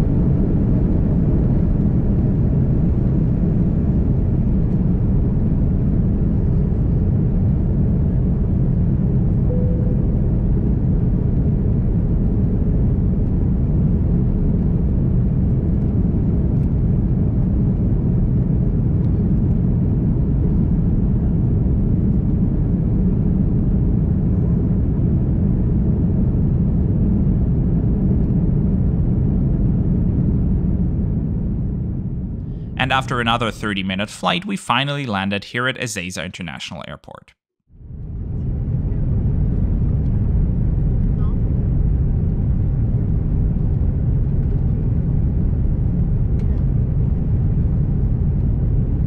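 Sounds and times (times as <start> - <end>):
airplane engines rumbling in cabin: 0.0 - 32.7, 38.1 - 49.0.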